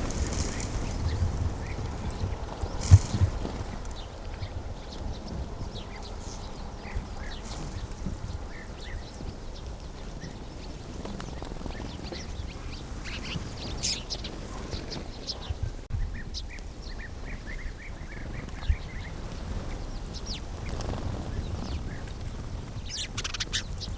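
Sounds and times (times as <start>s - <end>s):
sparrows chirping: 0.0s - 23.9s.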